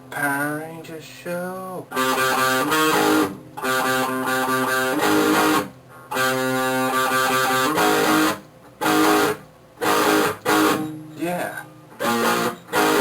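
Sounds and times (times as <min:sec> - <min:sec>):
strummed guitar chords: 0:01.4 - 0:13.0.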